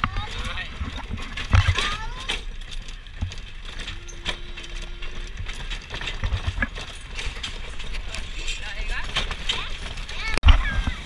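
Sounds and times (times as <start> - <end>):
carriage knocking and rattling: 0.0 - 10.4
horse hooves clip-clopping: 0.0 - 10.4.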